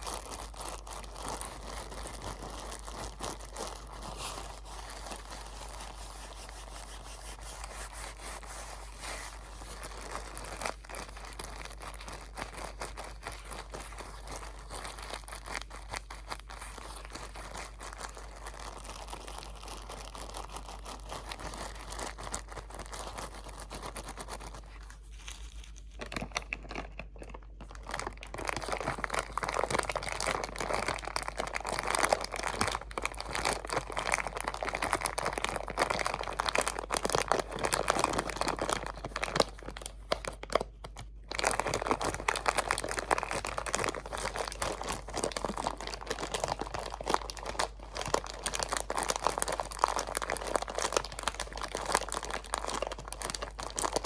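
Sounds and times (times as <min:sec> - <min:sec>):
plastic wrapping crinkling: 0:00.0 - 0:54.0.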